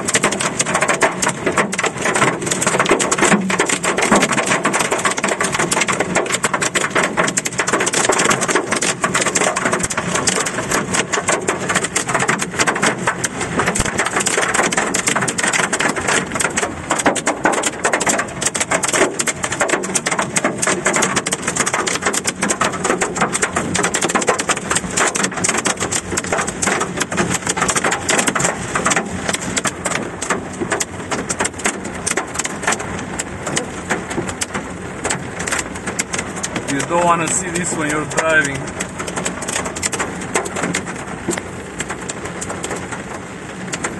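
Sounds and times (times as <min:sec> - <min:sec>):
hail rattling on car roof: 0:00.0 - 0:43.9.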